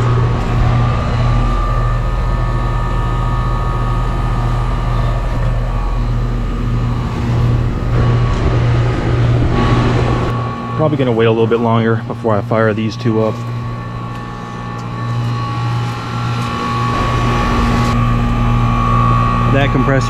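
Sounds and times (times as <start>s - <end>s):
compressor hum: 0.0s - 20.0s
fan airflow: 0.0s - 20.0s.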